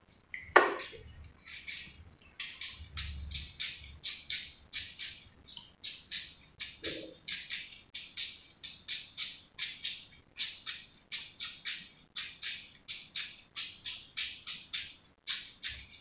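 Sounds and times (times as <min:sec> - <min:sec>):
cucumber being shredded: 0:00.6 - 0:16.0.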